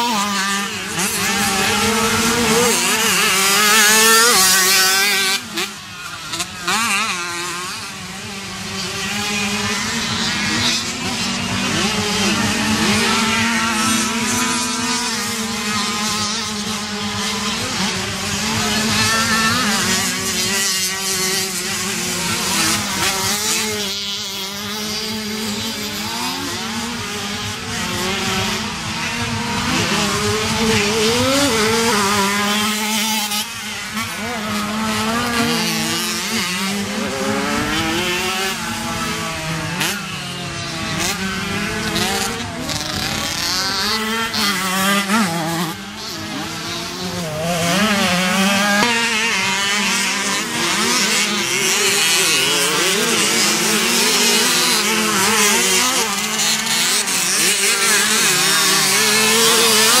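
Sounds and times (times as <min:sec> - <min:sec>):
motocross bike engines revving: 0:00.0 - 1:00.0.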